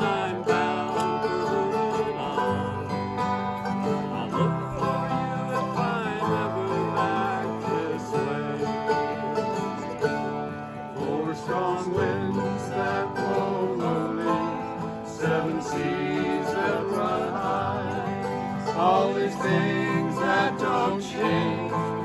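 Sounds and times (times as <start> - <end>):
acoustic guitar picking: 0.0 - 22.0
banjo picking: 0.0 - 22.0.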